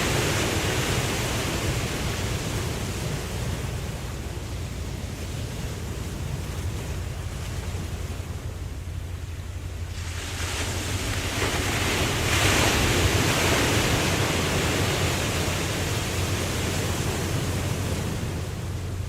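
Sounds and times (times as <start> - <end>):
ocean wave breaking: 0.0 - 19.0.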